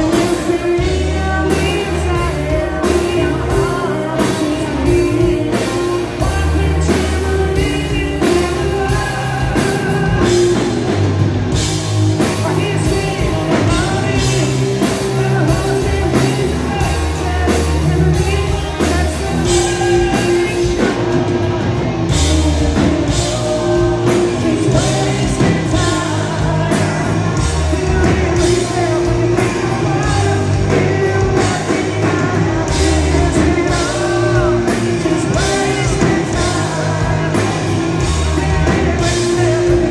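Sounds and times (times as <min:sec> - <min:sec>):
bass guitar: 0:00.0 - 0:39.9
drum kit: 0:00.0 - 0:39.9
electric guitars: 0:00.0 - 0:39.9
man singing lead vocals: 0:00.0 - 0:39.9.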